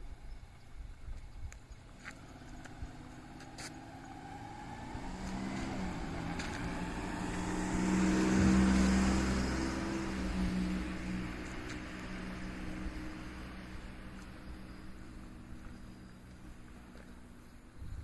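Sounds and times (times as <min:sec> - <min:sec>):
vehicle engine passing by: 0:01.9 - 0:17.4.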